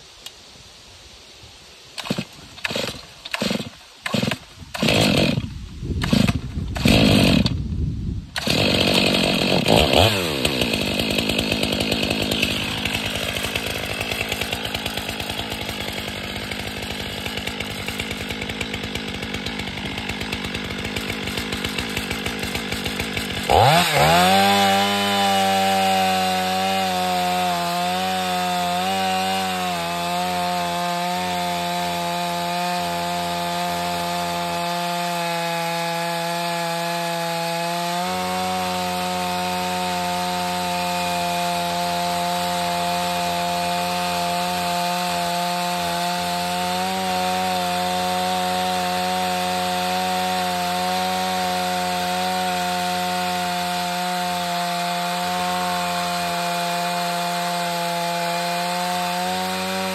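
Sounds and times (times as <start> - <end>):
chainsaw cutting log: 2.0 - 59.9.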